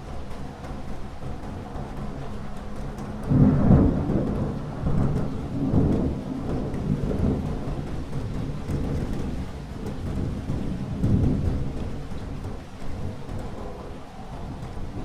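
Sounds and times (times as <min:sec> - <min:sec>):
steady rainfall: 0:00.0 - 0:15.0
thunder rumbling: 0:00.2 - 0:15.0.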